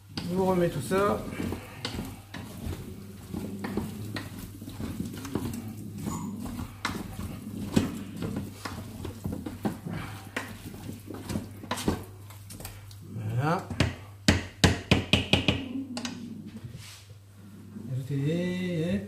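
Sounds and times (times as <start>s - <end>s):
utensil knocking and scraping pot: 0.0s - 16.2s.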